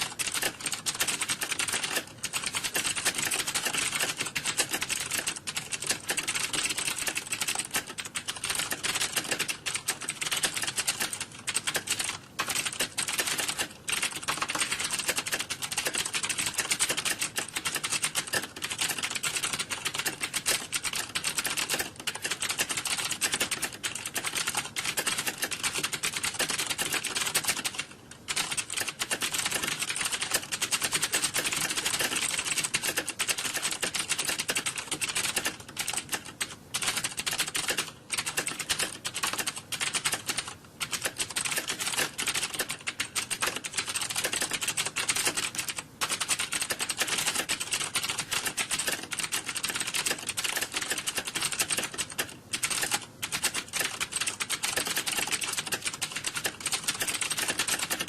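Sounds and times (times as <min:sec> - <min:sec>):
computer keyboard typing: 0:00.0 - 0:58.0.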